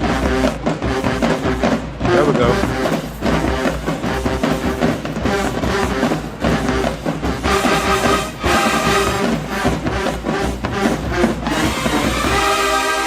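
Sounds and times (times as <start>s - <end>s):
brass holding loud chords: 0.0s - 13.0s.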